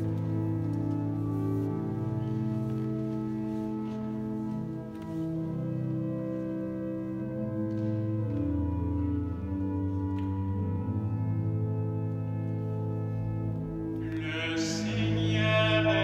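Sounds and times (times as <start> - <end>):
organ playing slow chords: 0.0 - 16.0.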